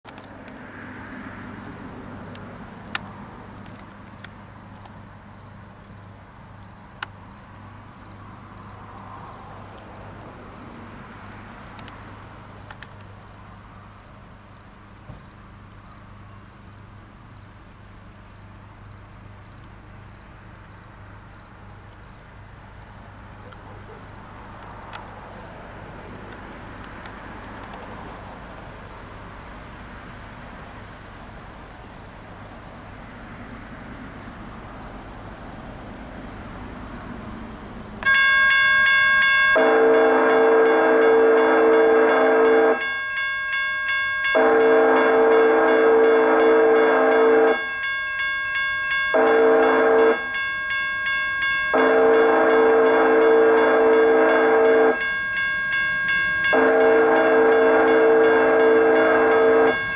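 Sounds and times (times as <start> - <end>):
insects chirring: 0.1 - 59.9.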